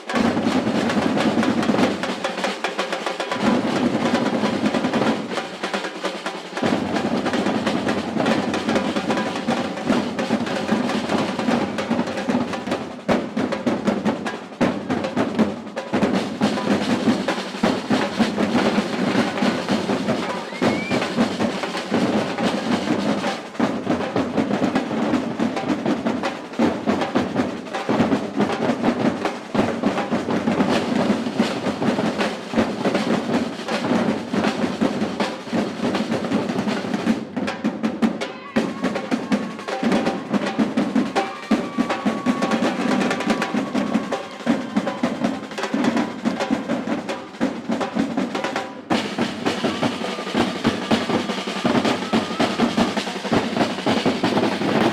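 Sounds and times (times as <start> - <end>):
percussion ensemble drumming samba: 0.0 - 54.9.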